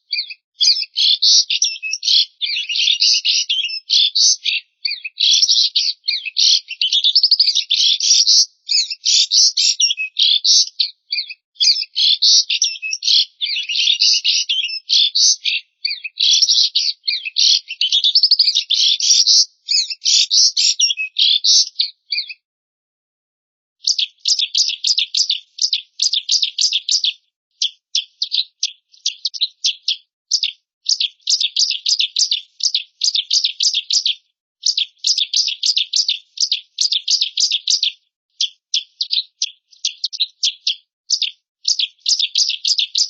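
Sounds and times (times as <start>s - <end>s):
songbird twittering: 0.0s - 22.4s, 23.8s - 43.0s.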